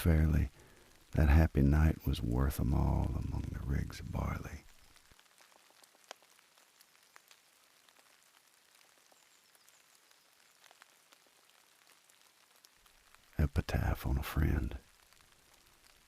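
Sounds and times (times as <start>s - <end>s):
light drizzle: 0.0s - 16.0s
raindrops ticking: 0.0s - 16.0s.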